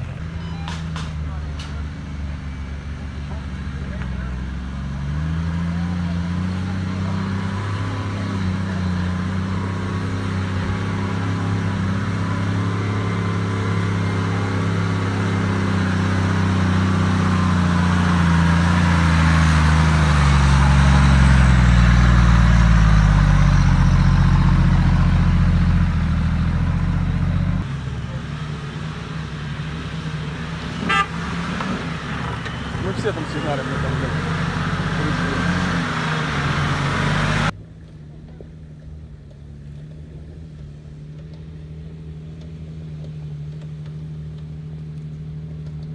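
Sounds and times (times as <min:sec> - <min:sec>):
suv engine at low revs: 0:00.0 - 0:45.9.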